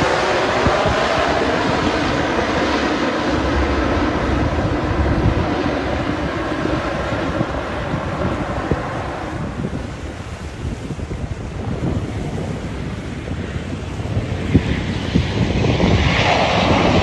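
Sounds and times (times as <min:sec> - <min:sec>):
airplane engines passing close: 0:00.0 - 0:17.0.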